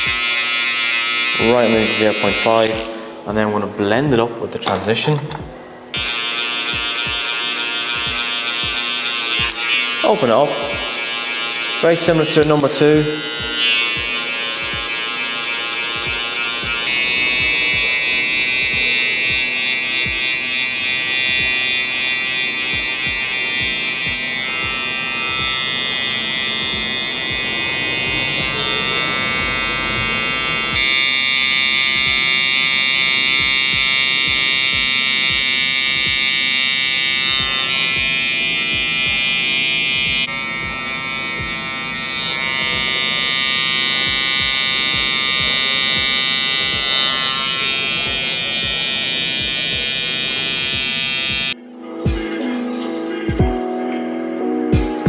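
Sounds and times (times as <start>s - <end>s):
hair trimmer buzzing: 0.0s - 3.0s, 5.2s - 51.6s
hair clippers buzzing: 0.0s - 3.2s, 4.7s - 51.6s.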